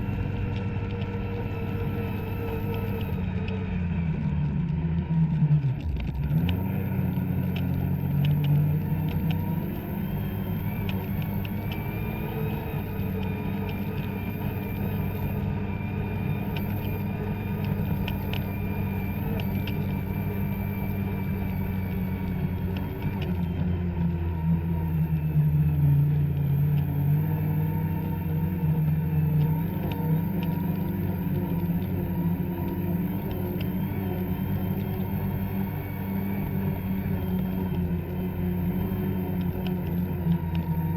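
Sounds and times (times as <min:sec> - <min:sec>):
snowmobile engine running: 0:00.0 - 0:40.9
light ticks: 0:05.8 - 0:24.2, 0:25.0 - 0:40.9.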